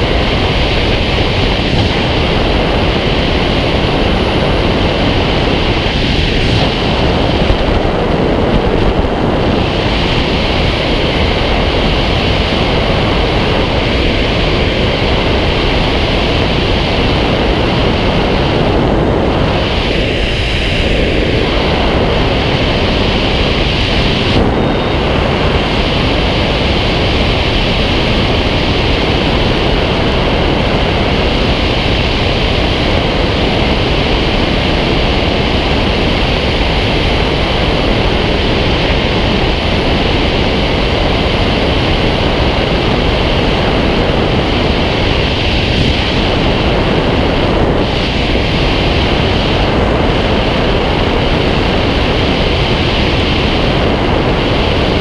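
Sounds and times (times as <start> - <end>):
loud rush of airflow: 0.0 - 55.0.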